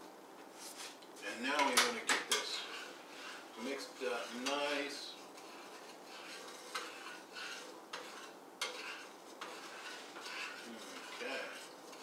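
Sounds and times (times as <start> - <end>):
utensil scraping a pan: 0.7 - 12.0.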